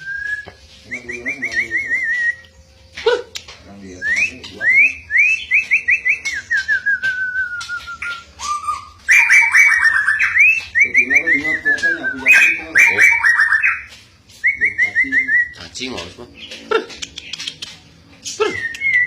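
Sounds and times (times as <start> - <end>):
bird singing whistled notes: 0.0 - 17.5, 18.2 - 19.0.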